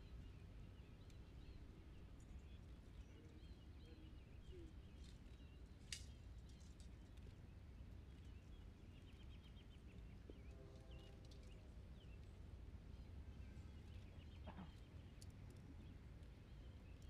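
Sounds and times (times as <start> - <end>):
faint bird chirps and trills: 0.0 - 17.0.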